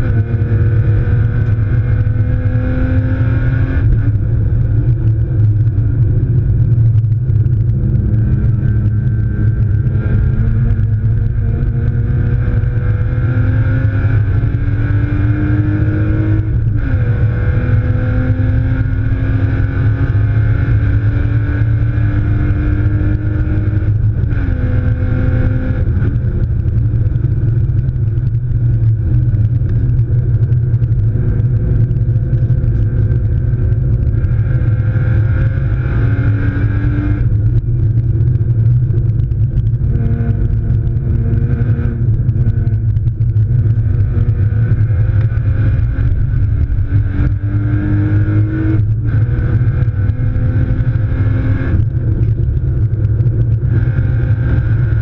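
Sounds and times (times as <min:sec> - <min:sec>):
car engine pulling hard: 0:00.0 - 0:55.0
road and drivetrain drone: 0:00.0 - 0:55.0.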